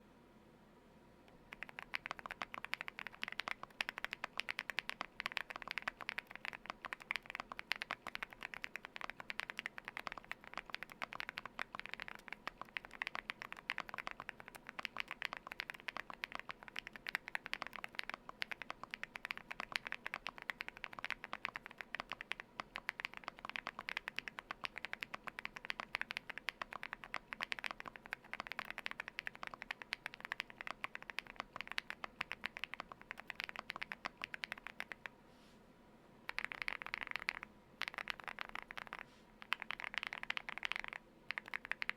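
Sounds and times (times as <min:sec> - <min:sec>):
mechanical keyboard typing: 0:01.5 - 0:35.1, 0:36.3 - 0:41.9.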